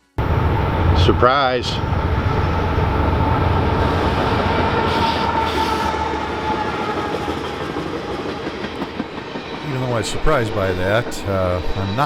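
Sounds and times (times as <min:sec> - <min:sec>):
diesel locomotive rumble: 0:00.0 - 0:10.4.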